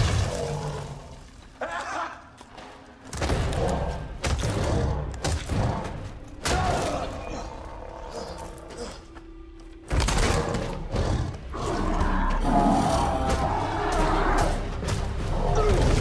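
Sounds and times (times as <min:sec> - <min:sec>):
film music: 0:00.0 - 0:16.0.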